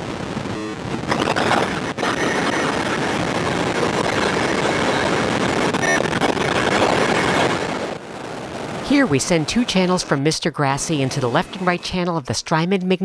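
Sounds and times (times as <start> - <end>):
harsh chaotic synthesizer noise: 0.0 - 12.2.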